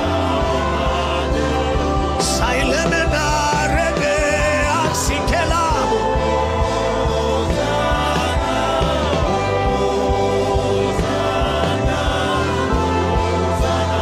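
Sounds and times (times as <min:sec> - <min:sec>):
gospel worship music with singing: 0:00.0 - 0:14.0.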